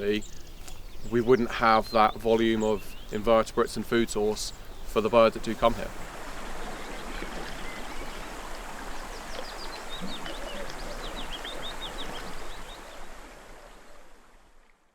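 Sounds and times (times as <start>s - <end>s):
small birds chirping: 0.0s - 13.0s
stream water running: 0.0s - 14.9s.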